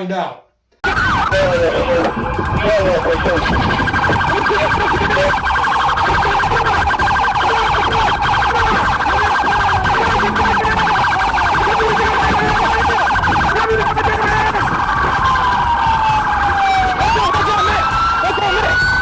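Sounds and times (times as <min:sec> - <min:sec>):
police siren warbling: 0:00.8 - 0:19.0.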